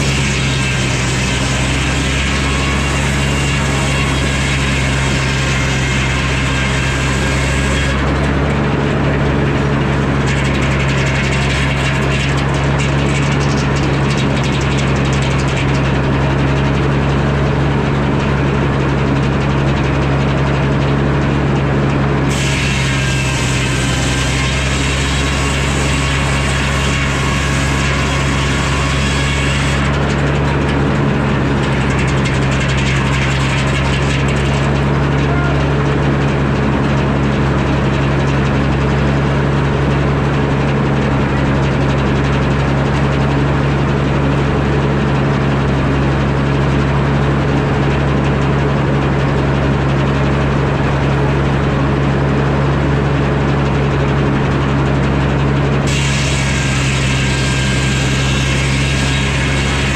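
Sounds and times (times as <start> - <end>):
sawmill engine drone: 0.0 - 59.9.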